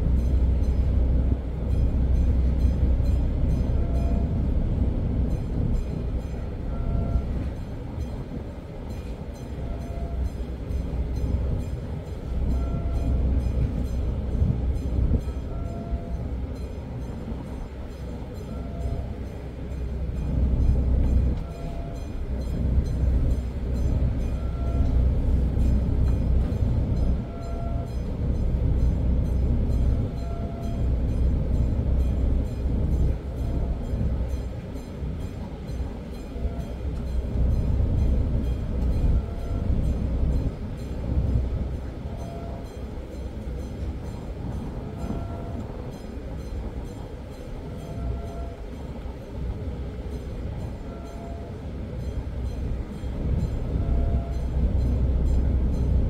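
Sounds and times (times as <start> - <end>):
low uneven ship rumble: 0.0 - 56.0.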